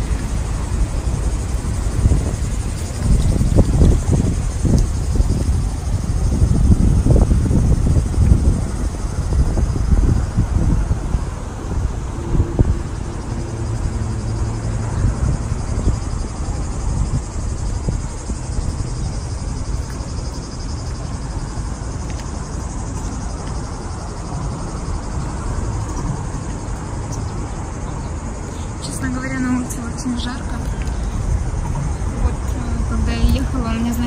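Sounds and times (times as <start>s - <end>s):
insects buzzing: 0.0s - 34.0s
wind buffeting microphone: 0.0s - 34.0s.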